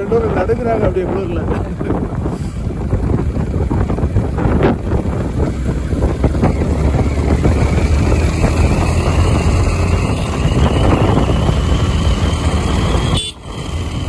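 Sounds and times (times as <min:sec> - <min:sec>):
motorcycle engine rumble: 0:00.0 - 0:14.0
wind rushing over microphone: 0:00.0 - 0:14.0.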